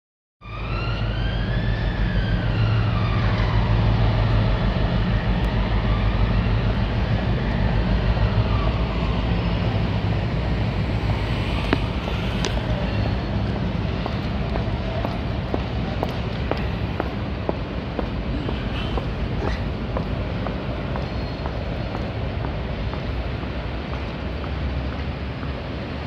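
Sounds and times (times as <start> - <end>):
locomotive engine drone: 0.4 - 26.0.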